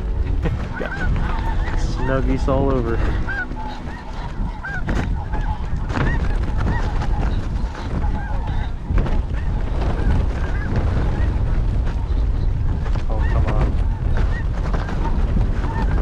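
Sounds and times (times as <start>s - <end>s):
geese honking: 0.0s - 16.0s
wind buffeting microphone: 0.0s - 16.0s.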